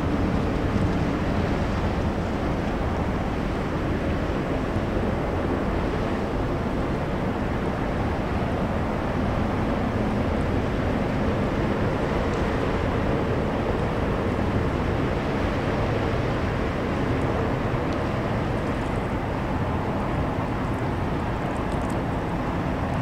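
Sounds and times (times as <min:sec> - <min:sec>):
wind noise on microphone: 0:00.0 - 0:23.0.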